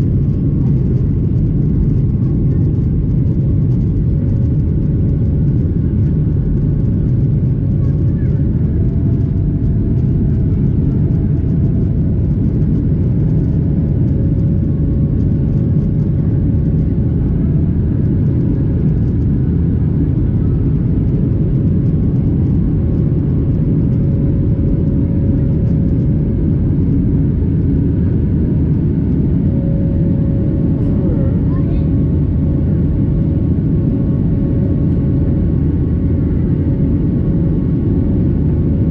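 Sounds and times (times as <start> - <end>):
faint jet engine whine: 0.0 - 38.9
jet engines rumbling: 0.0 - 38.9.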